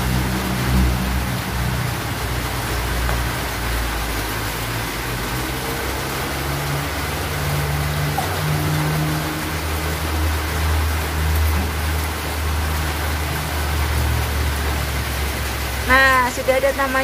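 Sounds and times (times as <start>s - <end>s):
heavy rain on foliage and roof: 0.0s - 17.0s.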